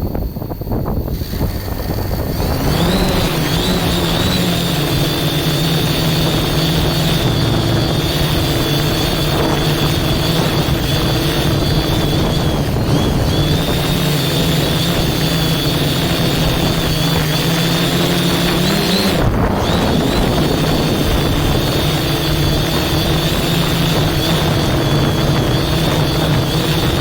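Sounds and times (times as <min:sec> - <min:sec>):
drone motors humming: 0:00.0 - 0:27.0
wind noise: 0:00.0 - 0:27.0.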